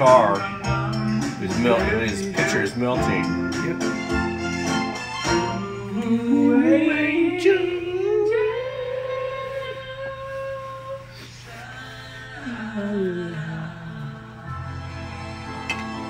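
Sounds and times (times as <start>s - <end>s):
person singing: 0.0s - 4.1s, 5.3s - 15.0s
guitar: 0.0s - 11.0s, 12.4s - 16.0s.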